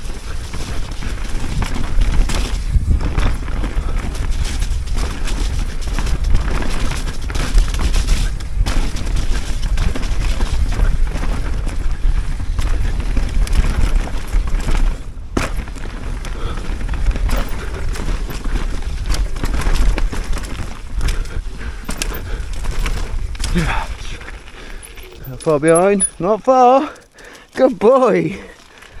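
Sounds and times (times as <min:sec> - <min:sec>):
wind buffeting microphone: 0:00.0 - 0:25.6
bike rattling over bumps: 0:00.0 - 0:29.0
tyres on dirt: 0:00.0 - 0:29.0.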